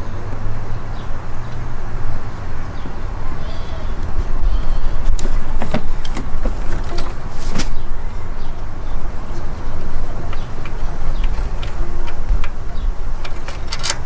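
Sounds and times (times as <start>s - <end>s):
heavy low rumble: 0.0s - 14.0s.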